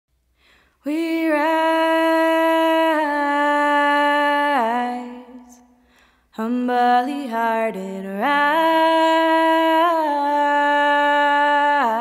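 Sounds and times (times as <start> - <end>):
woman singing unaccompanied: 0.8 - 5.7, 6.4 - 12.0.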